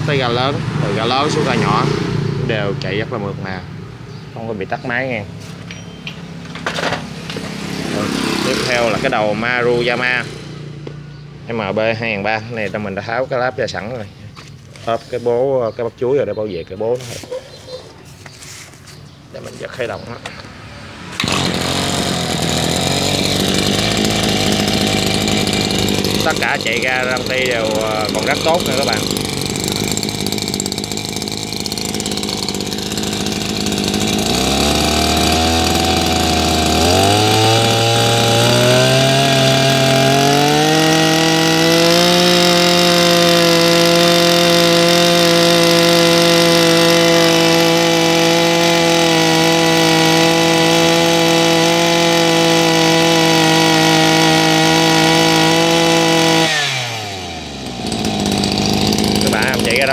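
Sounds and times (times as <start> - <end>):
brush-cutter engine revving: 0.0 - 3.8, 5.4 - 13.7, 18.8 - 59.9.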